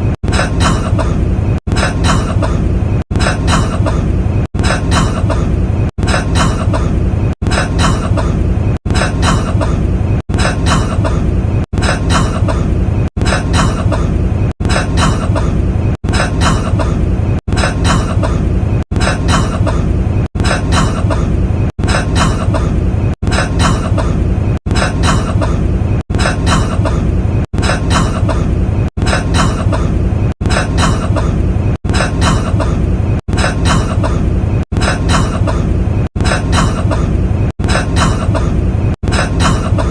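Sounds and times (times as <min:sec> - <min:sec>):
man coughing: 0:00.2 - 0:39.9.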